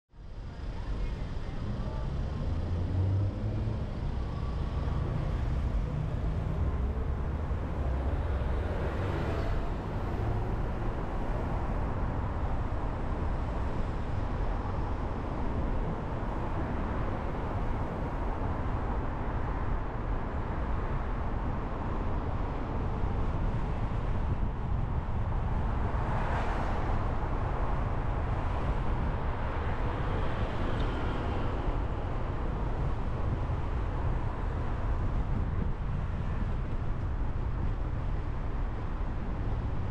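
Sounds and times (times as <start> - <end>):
car road noise: 0.3 - 39.9
other traffic passing: 1.4 - 39.8.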